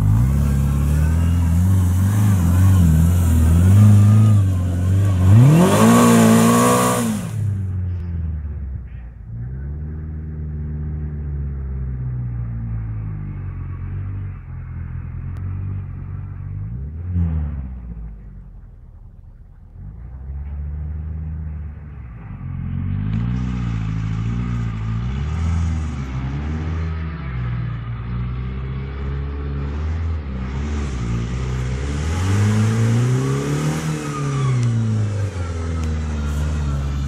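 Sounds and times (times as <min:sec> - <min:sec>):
car engine revving: 0:00.0 - 0:08.7, 0:09.3 - 0:37.0.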